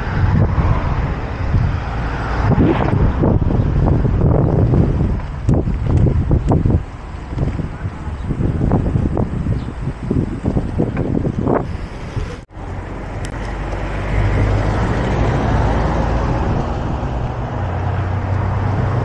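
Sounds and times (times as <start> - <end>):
car engine and tyres: 0.0 - 19.0
wind buffeting microphone: 0.0 - 19.0.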